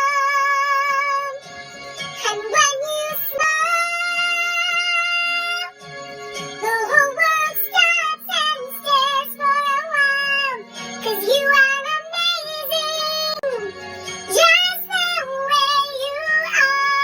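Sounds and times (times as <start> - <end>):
high singing voice: 0.0 - 1.4, 2.2 - 5.8, 6.6 - 17.0
quiet backing music: 0.0 - 17.0.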